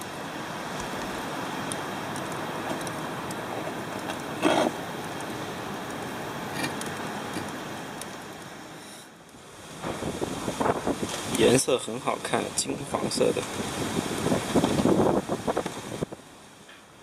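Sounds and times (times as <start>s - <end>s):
small crackles: 0.0s - 11.7s, 13.2s - 17.0s
meat sizzling over charcoal: 0.0s - 17.0s.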